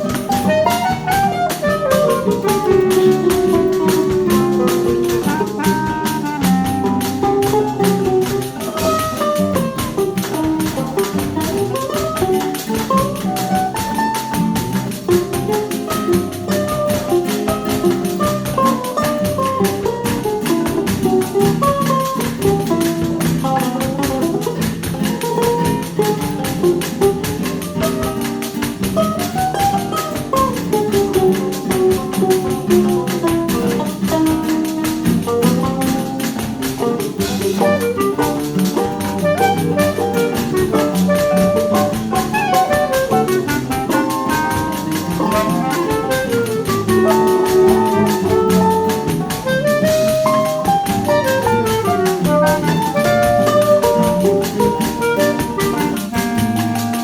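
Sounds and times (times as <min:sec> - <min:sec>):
percussion rhythm: 0:00.0 - 0:57.0.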